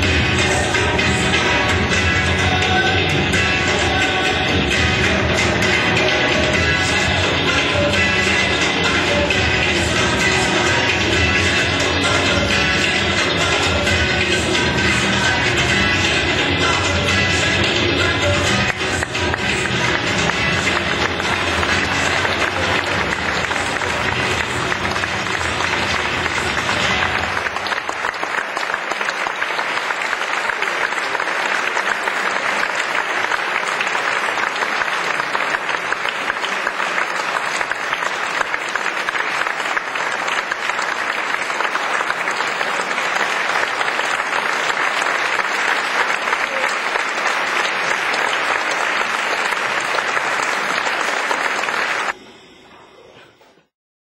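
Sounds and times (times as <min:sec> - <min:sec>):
audience applauding: 0:00.0 - 0:52.2.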